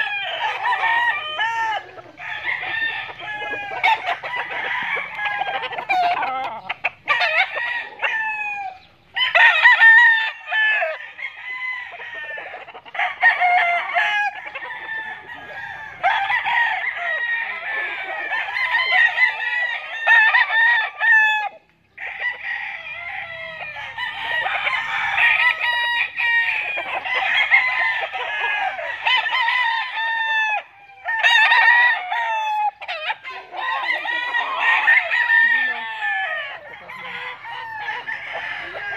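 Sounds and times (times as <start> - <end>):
chickens clucking: 0.0 - 38.9
roosters crowing: 0.0 - 38.9.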